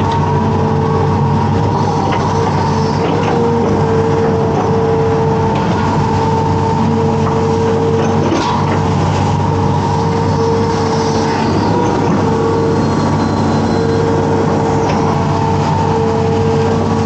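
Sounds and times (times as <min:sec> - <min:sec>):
diesel engine running under load: 0:00.0 - 0:17.0
hydraulic whine: 0:00.0 - 0:17.0.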